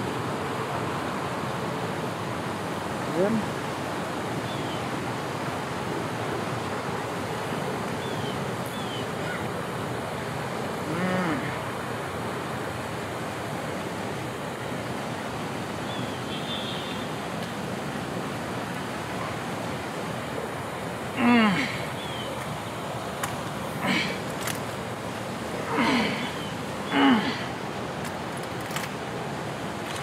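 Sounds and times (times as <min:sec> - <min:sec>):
rushing outdoor noise: 0:00.0 - 0:30.0.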